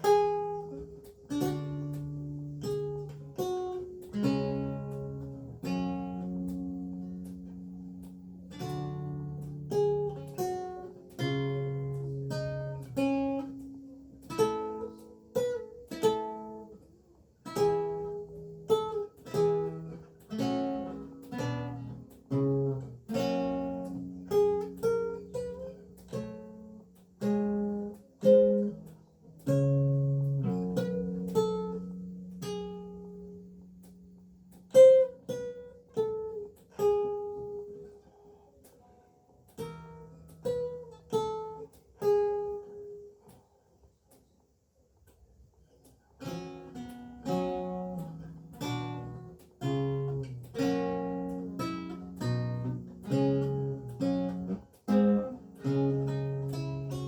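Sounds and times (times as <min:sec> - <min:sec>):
solo lute playing: 0:00.0 - 0:38.4, 0:39.5 - 0:43.2, 0:46.2 - 0:57.0.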